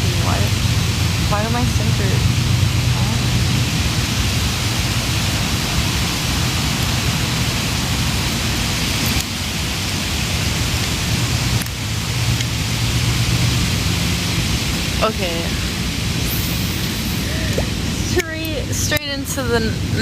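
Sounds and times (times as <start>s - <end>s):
ocean surf rushing: 0.0s - 20.0s.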